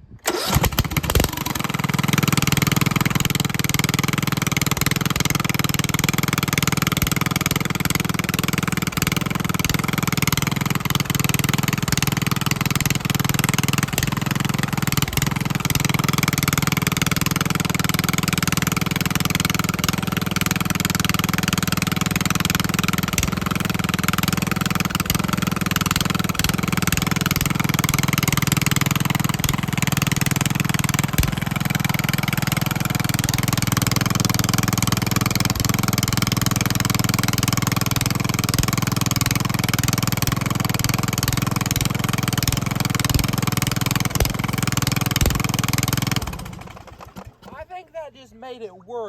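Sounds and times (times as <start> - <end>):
riding lawnmower engine running: 0.0 - 49.0.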